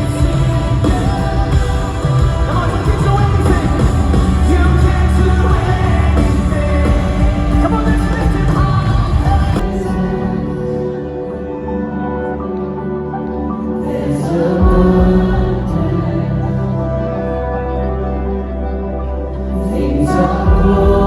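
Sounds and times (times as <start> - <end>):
pop music with singing: 0.0 - 21.0.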